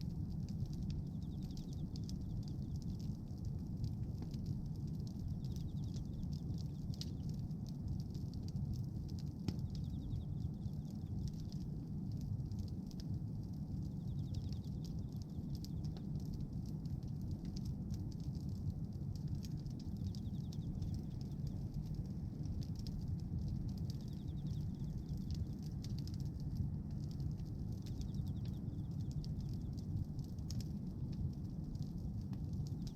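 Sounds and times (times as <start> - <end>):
low rumble of flames: 0.0 - 32.9
wood crackling and popping: 0.0 - 32.9.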